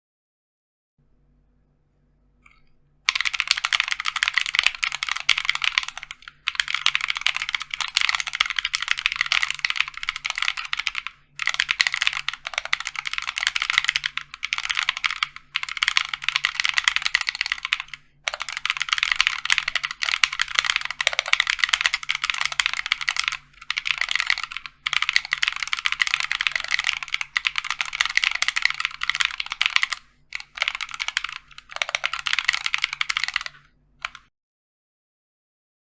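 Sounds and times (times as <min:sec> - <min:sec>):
fast typing on mechanical keyboard: 0:03.1 - 0:34.3.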